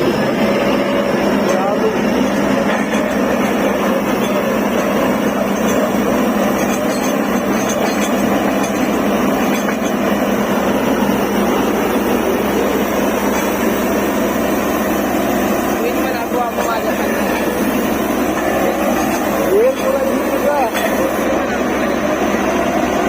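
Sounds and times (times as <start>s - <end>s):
drilling rig running: 0.0s - 23.0s.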